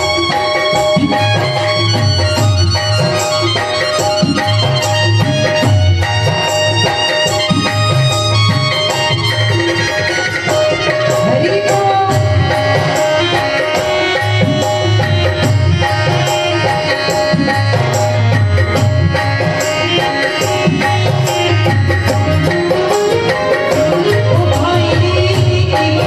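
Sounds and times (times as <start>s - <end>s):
hand drum rhythm: 0.0s - 26.0s
held melody line: 0.0s - 26.0s.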